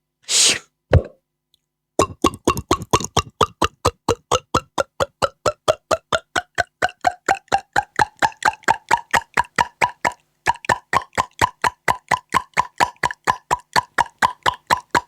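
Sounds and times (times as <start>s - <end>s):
beatboxer making water plops: 2.0s - 15.0s.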